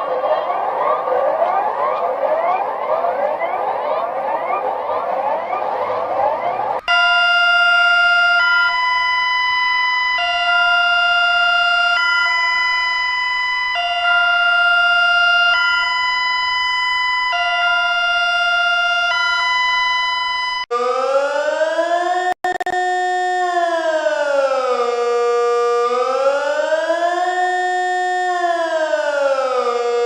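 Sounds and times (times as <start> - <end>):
sweeping siren: 0.0 - 30.0
two-tone emergency alarm: 0.0 - 30.0.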